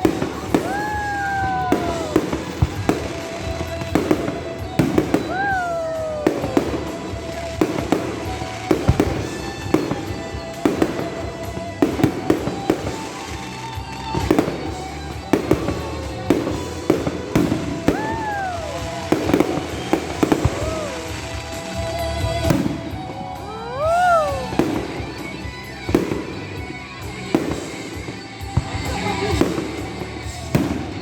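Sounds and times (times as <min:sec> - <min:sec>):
fireworks sharp bangs: 0:00.0 - 0:31.0.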